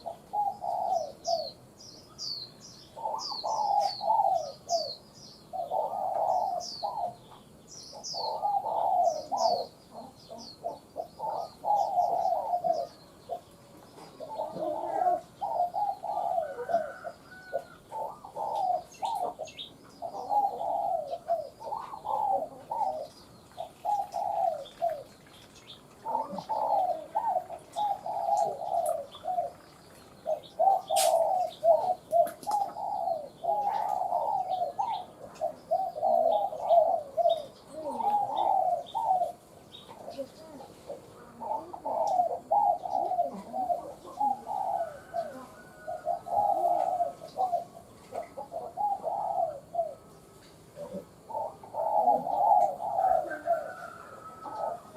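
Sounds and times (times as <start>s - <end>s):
dove cooing: 0.0s - 1.8s, 2.9s - 25.2s, 25.8s - 54.9s
small birds chirping: 0.0s - 54.9s.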